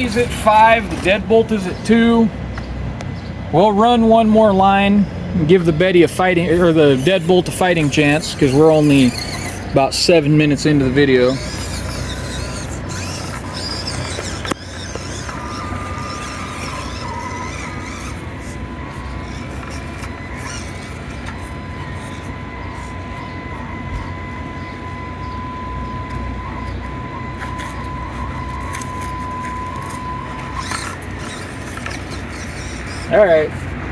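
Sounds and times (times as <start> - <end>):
small electric motor whining: 0.0 - 2.6, 3.2 - 33.9.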